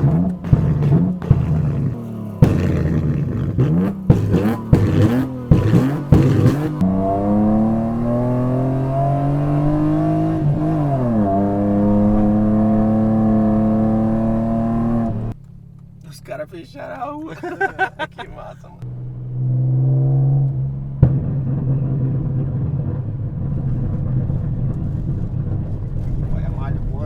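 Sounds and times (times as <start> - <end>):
car engine revving: 0.0 - 16.2, 16.9 - 27.0.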